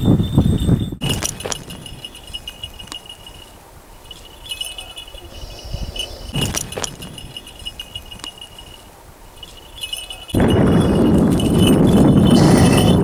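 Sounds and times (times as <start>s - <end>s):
small bells jingling: 0.0s - 13.0s.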